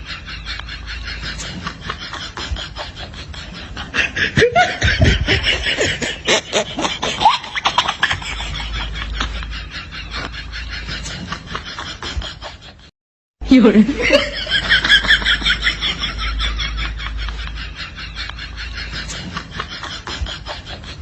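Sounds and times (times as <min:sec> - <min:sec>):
person laughing: 0:00.0 - 0:12.9, 0:13.6 - 0:21.0.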